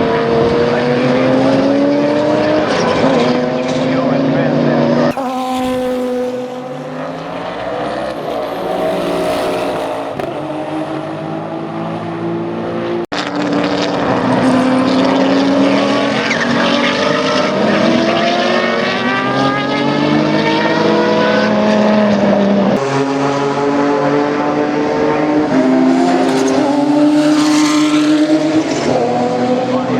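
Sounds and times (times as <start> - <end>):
race car engines accelerating: 0.0 - 29.9.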